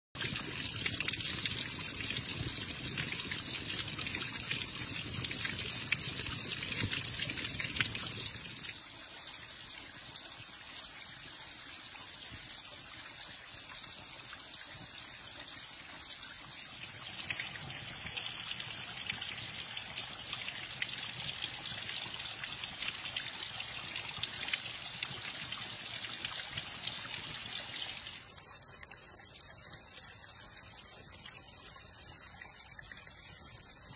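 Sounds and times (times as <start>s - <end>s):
small waterfall splashing: 0.2s - 33.9s.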